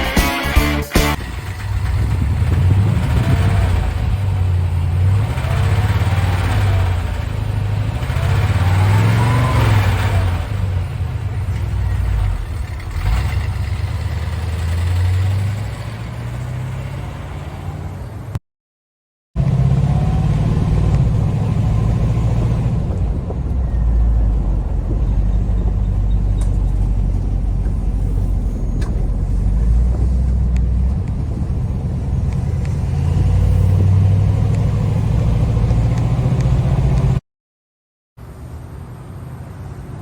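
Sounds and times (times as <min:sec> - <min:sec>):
truck engine running: 0:00.0 - 0:18.0, 0:19.4 - 0:37.2.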